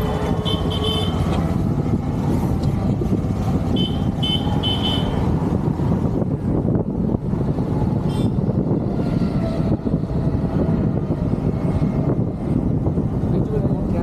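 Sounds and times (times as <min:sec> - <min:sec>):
motorcycle engine rumble: 0:00.0 - 0:14.0
wind noise on microphone: 0:00.0 - 0:14.0.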